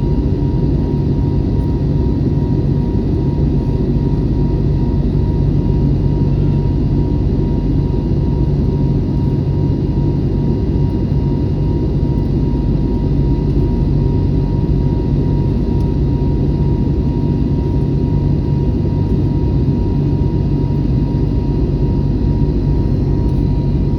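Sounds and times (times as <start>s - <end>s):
jet engine rumble: 0.0s - 23.9s.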